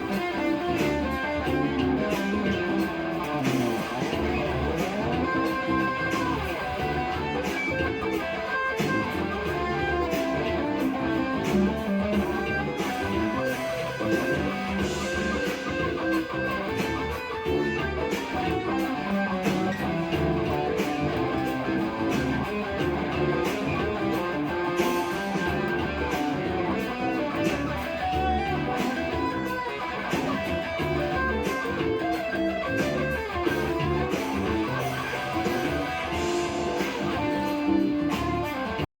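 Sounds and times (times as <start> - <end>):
plucked guitar music: 0.0 - 38.9.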